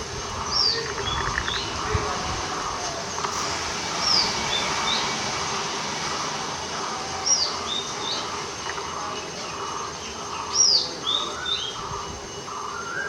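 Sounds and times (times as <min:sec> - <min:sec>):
birds chirping: 0:00.0 - 0:13.0
low rumble and hiss: 0:00.0 - 0:13.0.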